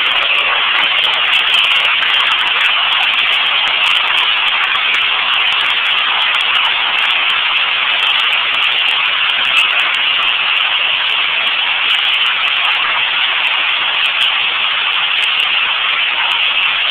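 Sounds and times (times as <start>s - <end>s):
hail falling on pavement: 0.0s - 16.9s.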